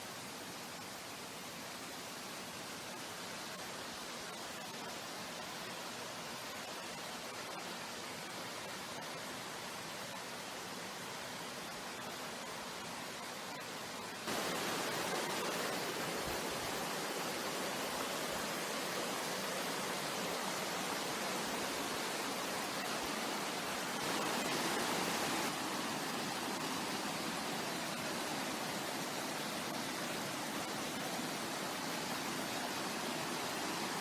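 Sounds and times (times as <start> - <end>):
stream water rushing: 0.0 - 34.0.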